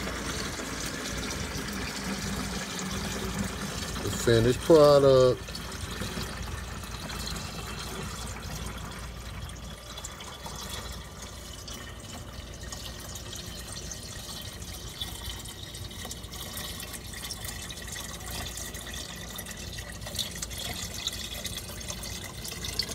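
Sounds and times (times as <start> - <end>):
liquid pouring into pot: 0.0 - 22.9.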